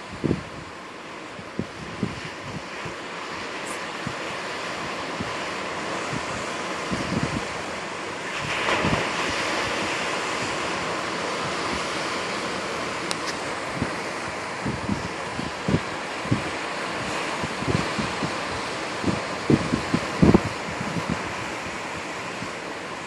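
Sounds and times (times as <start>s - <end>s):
wind buffeting microphone: 0.0s - 0.8s, 1.4s - 22.7s
ocean surf breaking on rocks: 0.0s - 23.0s.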